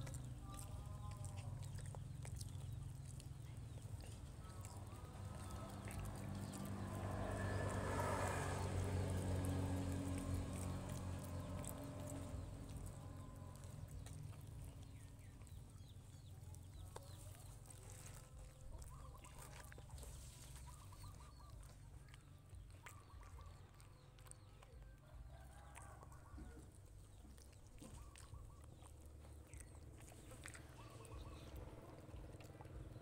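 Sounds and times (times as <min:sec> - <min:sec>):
faint chicken clucking: 0:00.0 - 0:33.0.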